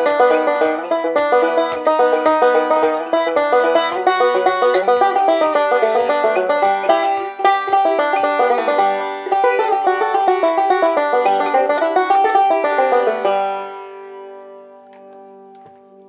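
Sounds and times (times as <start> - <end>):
banjo picked quickly: 0.0 - 14.9.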